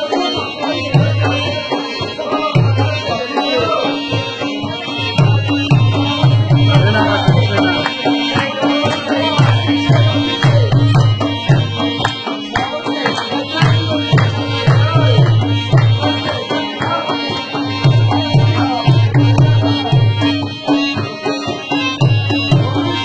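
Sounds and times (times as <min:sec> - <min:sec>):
sustained melody instrument: 0:00.0 - 0:23.0
quick steady drum rhythm: 0:04.5 - 0:23.0.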